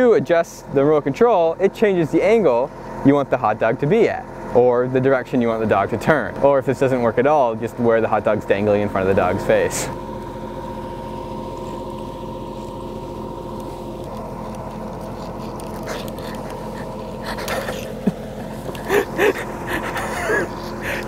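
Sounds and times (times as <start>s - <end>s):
generator humming: 0.0s - 21.0s.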